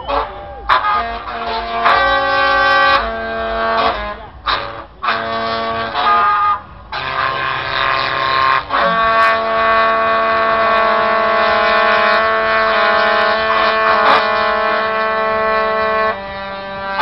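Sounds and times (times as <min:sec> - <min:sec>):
keytar train horn chords: 0:00.0 - 0:17.0.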